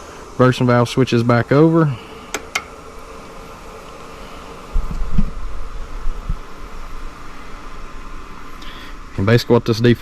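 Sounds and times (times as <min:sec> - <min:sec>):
heat pump compressor hum: 0:00.0 - 0:10.0.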